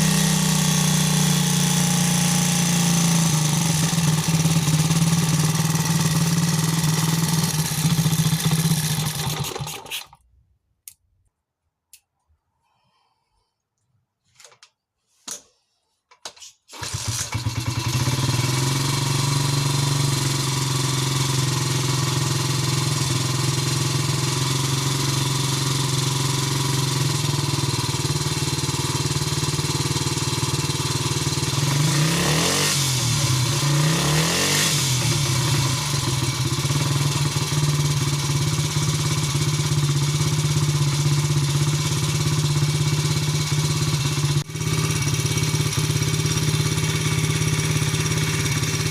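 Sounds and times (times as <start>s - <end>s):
motorcycle engine starting and idling: 0.0s - 10.2s, 16.7s - 48.9s.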